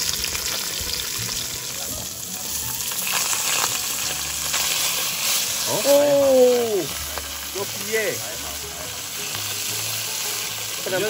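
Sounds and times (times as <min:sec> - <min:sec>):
fish sizzling in hot oil: 0:00.0 - 0:11.0
oil crackles: 0:00.0 - 0:11.0.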